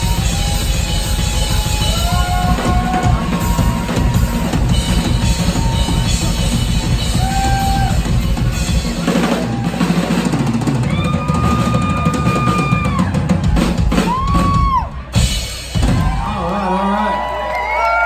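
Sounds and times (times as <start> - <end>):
drum kit solo: 0.0 - 16.5.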